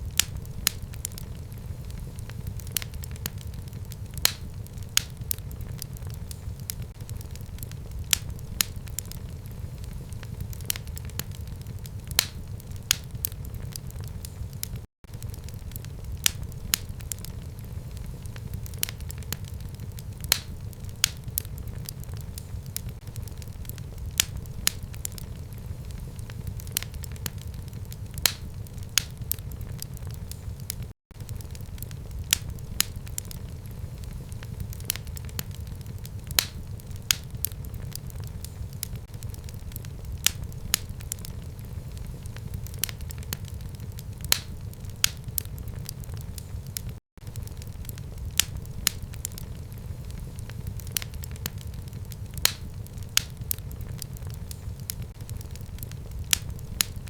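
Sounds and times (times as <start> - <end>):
fire crackling in a fireplace: 0.0 - 57.0.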